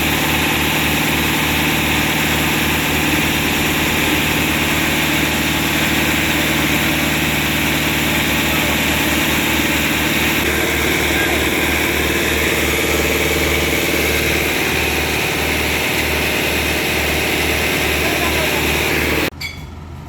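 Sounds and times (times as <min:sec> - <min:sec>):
truck engine running steadily: 0:00.0 - 0:19.3.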